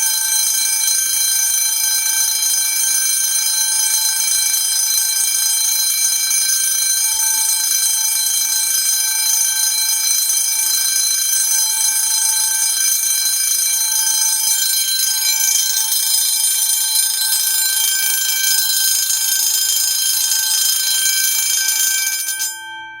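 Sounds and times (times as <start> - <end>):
fire alarm bell ringing: 0.0 - 23.0.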